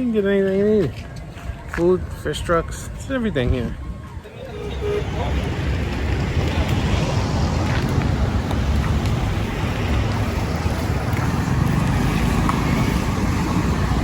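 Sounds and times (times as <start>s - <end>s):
street traffic engine rumble: 0.0s - 14.0s.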